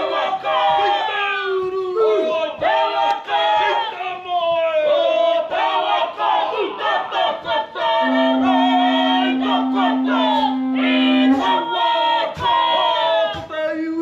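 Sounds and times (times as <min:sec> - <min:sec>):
group singing and chanting: 0:00.0 - 0:13.7.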